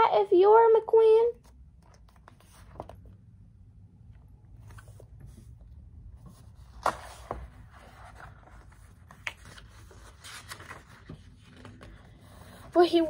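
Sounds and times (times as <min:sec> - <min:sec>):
paper pages rustling: 0:01.4 - 0:03.3, 0:04.2 - 0:13.0.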